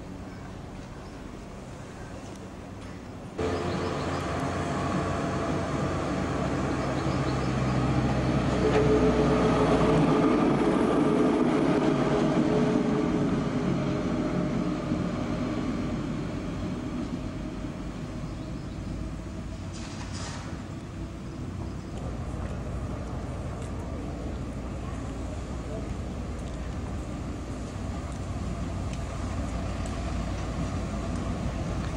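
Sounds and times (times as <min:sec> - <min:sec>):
electric tram passing: 0:00.0 - 0:31.9.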